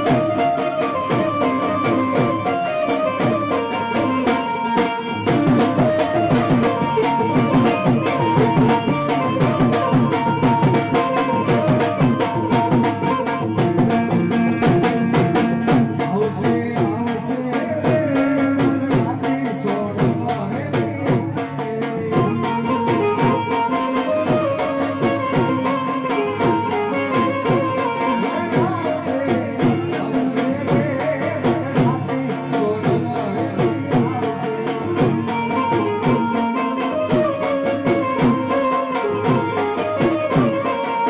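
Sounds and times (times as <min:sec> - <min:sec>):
fast hand drum rhythm: 0:00.0 - 0:41.0.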